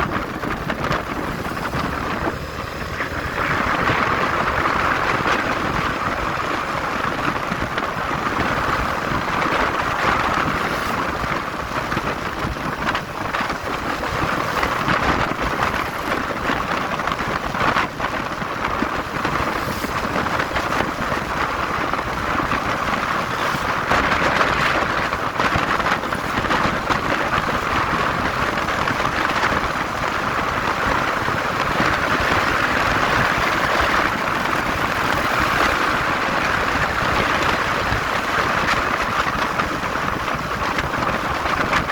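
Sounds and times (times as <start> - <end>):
motorcycle engine: 0.0 - 41.9
wind buffeting microphone: 0.0 - 41.9.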